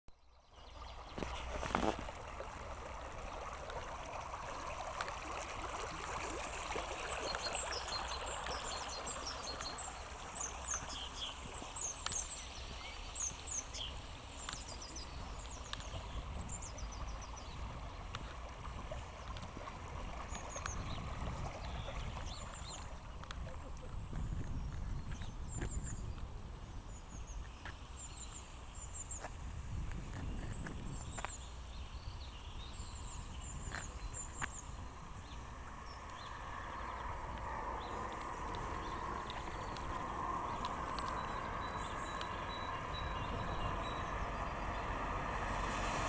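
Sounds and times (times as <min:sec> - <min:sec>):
sewage gushing from manhole: 0:00.6 - 0:25.3, 0:32.6 - 0:46.0
birds singing: 0:05.9 - 0:29.4, 0:30.1 - 0:45.2.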